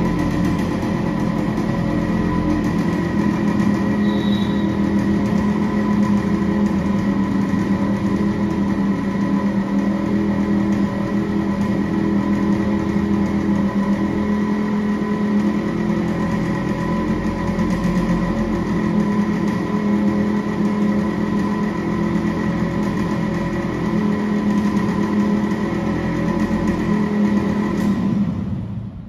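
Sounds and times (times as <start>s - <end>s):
motorcycle engine idling: 0.0s - 28.9s.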